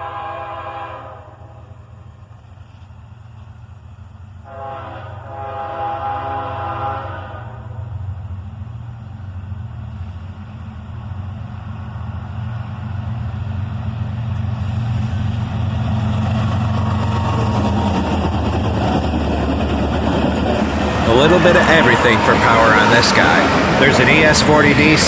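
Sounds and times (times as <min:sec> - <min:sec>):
passing train rumble: 0:00.0 - 0:25.0
locomotive engine drone: 0:01.2 - 0:25.0.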